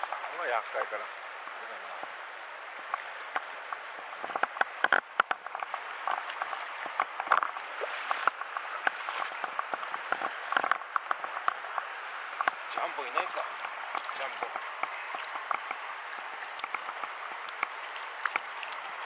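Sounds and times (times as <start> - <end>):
shallow river running: 0.0 - 19.0
small splashes: 2.9 - 19.0.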